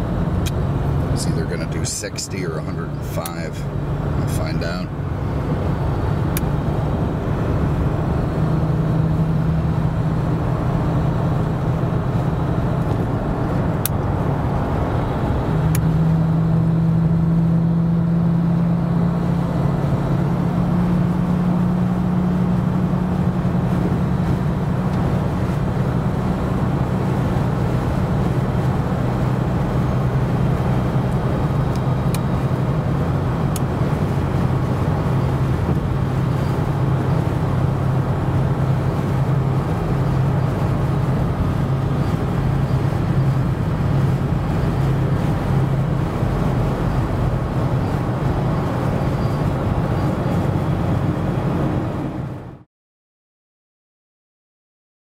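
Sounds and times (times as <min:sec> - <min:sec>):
car engine and road noise drone: 0:00.0 - 0:52.7.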